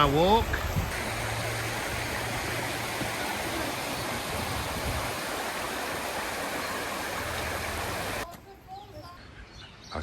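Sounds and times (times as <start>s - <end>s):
stream water rushing: 0.0s - 8.2s.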